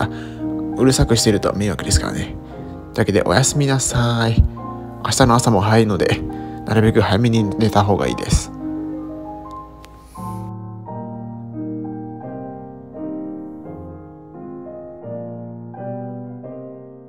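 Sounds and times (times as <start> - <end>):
slow gentle solo piano: 0.0 - 17.0.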